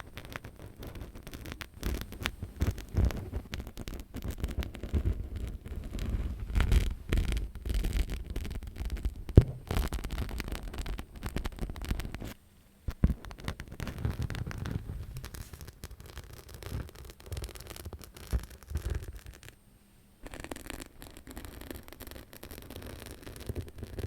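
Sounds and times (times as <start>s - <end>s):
scratching and rubbing on surface: 0.0s - 19.6s, 20.2s - 24.0s.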